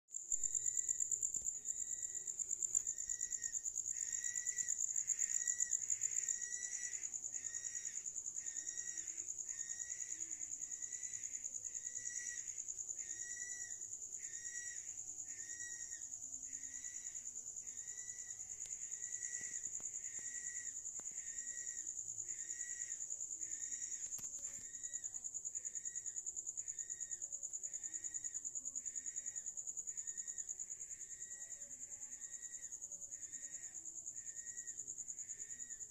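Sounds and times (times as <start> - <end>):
crickets chirping: 0.1 - 35.9.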